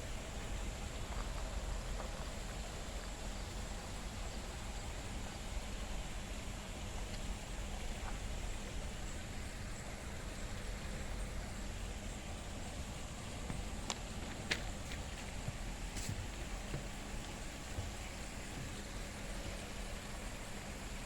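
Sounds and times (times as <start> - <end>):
outdoor hiss with low rumble: 0.0 - 21.0.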